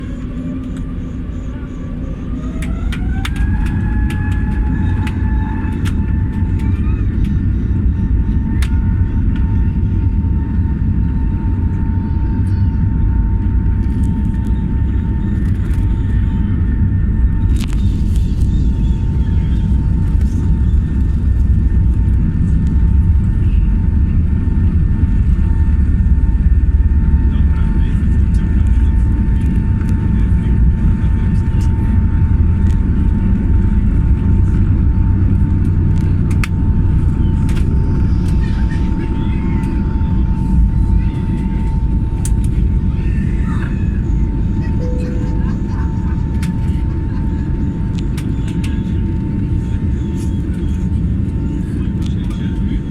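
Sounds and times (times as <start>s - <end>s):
thin engine whine: 0.0s - 48.5s
airplane engines rumbling: 0.0s - 52.9s.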